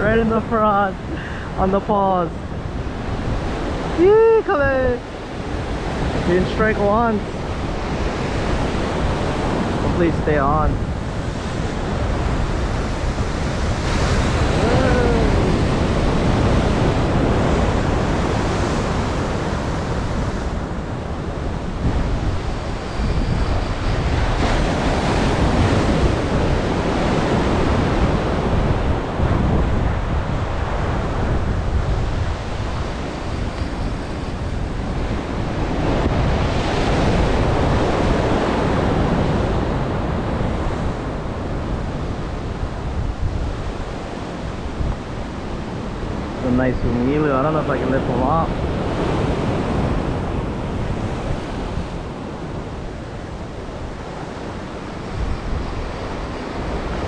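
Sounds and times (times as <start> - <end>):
ocean surf washing on shore: 0.0 - 57.0
wind buffeting microphone: 0.0 - 57.0.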